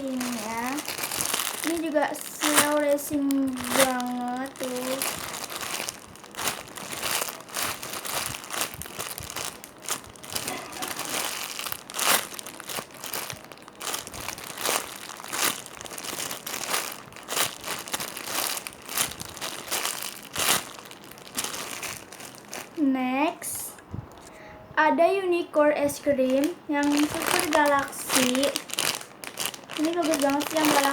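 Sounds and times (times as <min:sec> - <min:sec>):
squishy toy crinkling: 0:00.0 - 0:22.8, 0:26.2 - 0:30.9.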